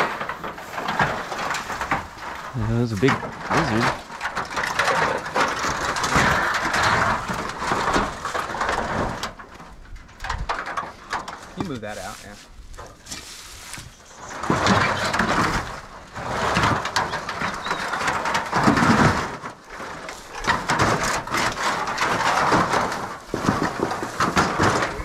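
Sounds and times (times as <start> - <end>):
dry brush rustling and crunching: 0.0 - 25.0.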